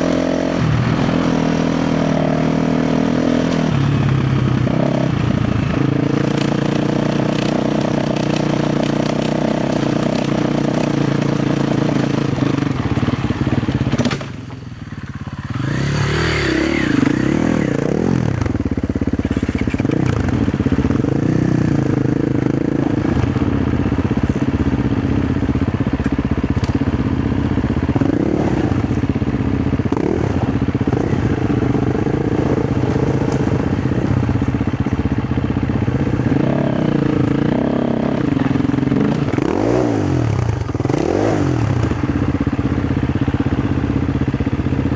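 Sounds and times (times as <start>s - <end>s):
dirt bike engine revving: 0.0s - 14.4s, 15.3s - 42.2s.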